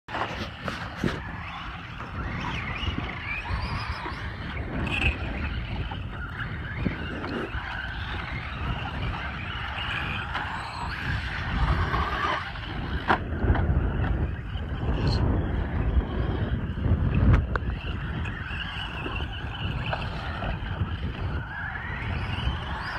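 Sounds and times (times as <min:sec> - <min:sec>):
toy truck motors whining: 0:00.1 - 0:22.9
tyres scrabbling over dirt: 0:00.1 - 0:22.9.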